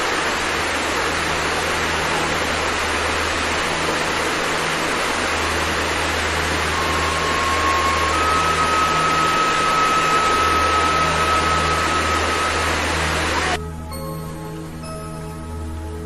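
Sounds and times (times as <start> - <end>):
thin steady tone: 0.0 - 13.6
waterfall rushing over rocks: 0.0 - 13.6.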